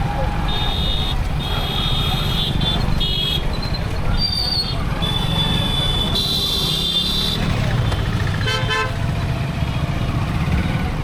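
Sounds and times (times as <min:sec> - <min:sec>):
motorbike engine and road noise: 0:00.0 - 0:11.0.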